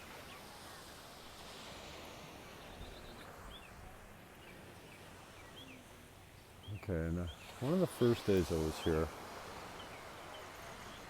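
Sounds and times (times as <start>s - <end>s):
soft outdoor wash: 0.0s - 11.0s.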